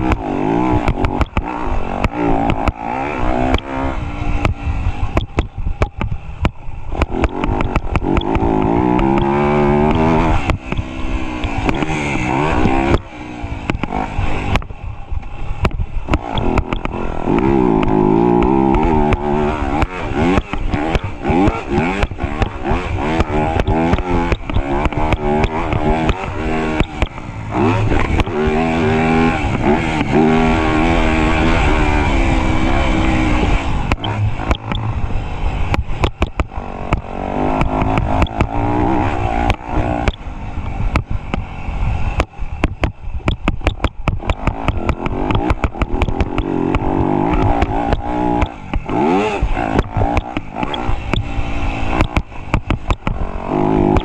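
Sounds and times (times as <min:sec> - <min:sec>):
dirt bike engine revving: 0:00.0 - 0:54.0
sharp clicks and knocks: 0:00.0 - 0:54.0.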